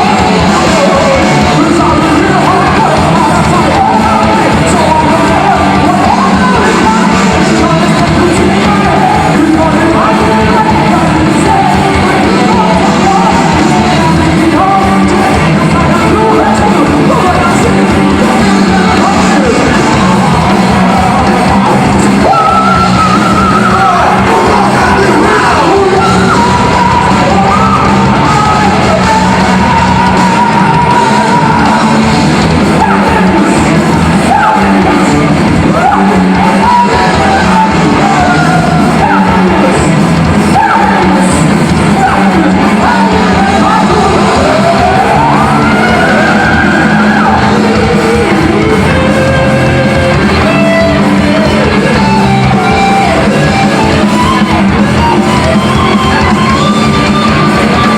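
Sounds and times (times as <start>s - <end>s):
heavy metal band playing: 0.0s - 57.9s.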